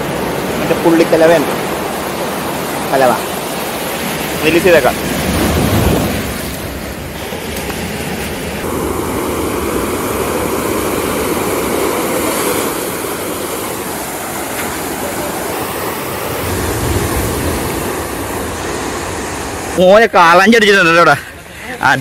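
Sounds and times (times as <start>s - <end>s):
surf breaking on seawall: 0.0s - 20.9s.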